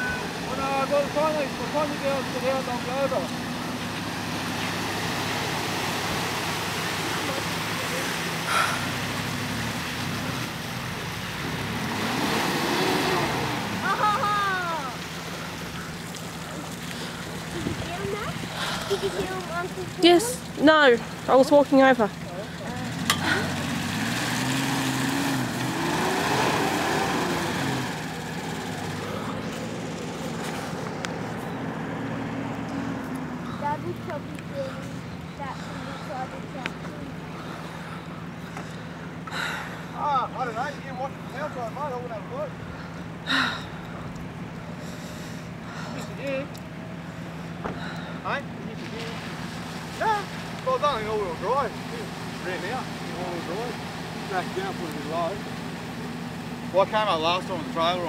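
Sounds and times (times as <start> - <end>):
engine running at low revs: 0.0 - 58.0
rushing water: 0.0 - 58.0.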